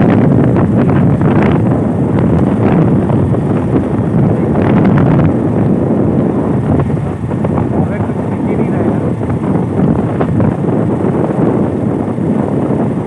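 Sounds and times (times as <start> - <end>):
motorcycle engine and road noise: 0.0 - 13.0
wind buffeting microphone: 0.0 - 13.0.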